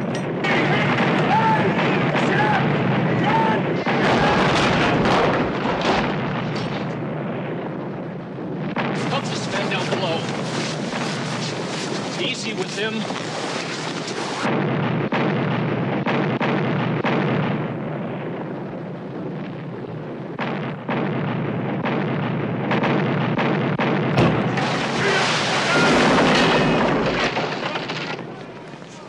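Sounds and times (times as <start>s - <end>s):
cannon shots: 0.0s - 28.8s
continuous noisy din: 0.0s - 29.0s.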